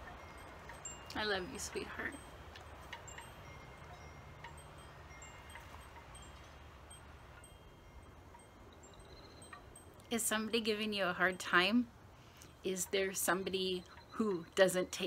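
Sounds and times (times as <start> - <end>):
wind chimes tinkling: 0.0 - 15.0.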